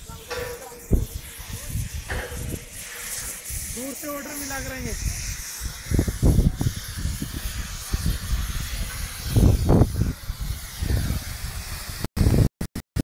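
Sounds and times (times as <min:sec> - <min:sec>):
gas torch hissing: 0:00.0 - 0:12.5
wind gusts on microphone: 0:00.0 - 0:12.5.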